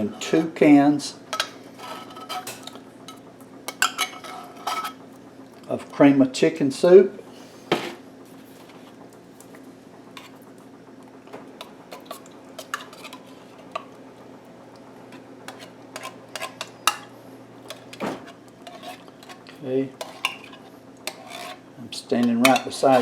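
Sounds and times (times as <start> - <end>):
refrigerator hum: 0.0 - 23.0.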